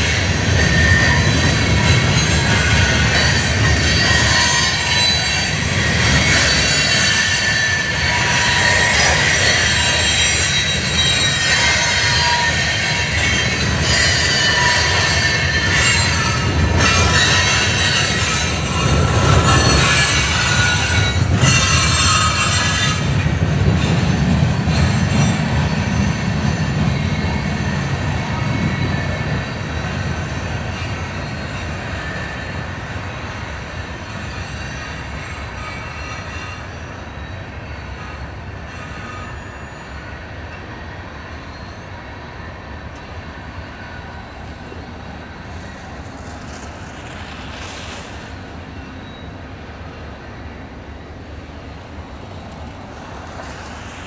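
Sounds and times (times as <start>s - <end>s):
freight train rumbling past: 0.0s - 54.0s
railcar wheels squealing: 0.0s - 54.0s.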